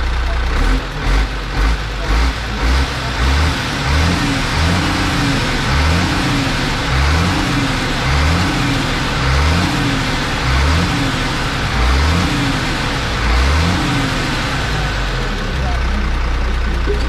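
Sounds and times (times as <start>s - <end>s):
pulsing vehicle engine: 0.0s - 17.0s.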